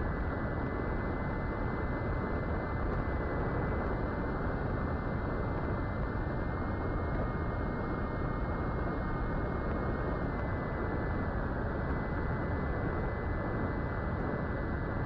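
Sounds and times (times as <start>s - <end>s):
faint high whine: 0.0s - 15.0s
wind rushing over camera: 0.0s - 15.0s.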